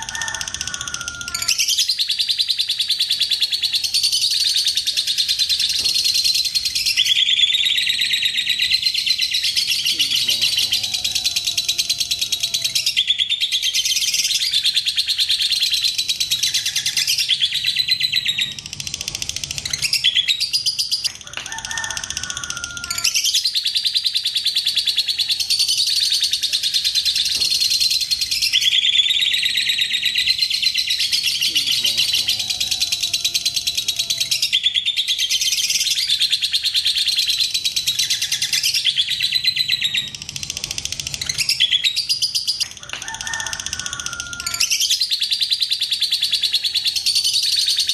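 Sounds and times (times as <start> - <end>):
bird chattering high chirps: 0.0 - 47.9.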